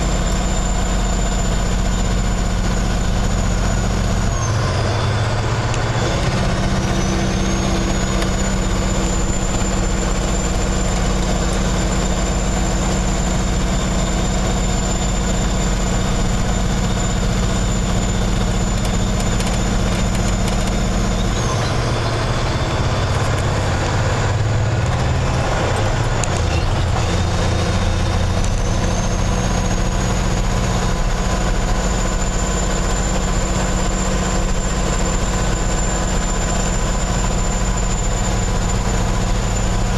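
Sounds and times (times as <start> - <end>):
diesel truck engine drone: 0.0 - 39.9
high whine: 0.0 - 39.9.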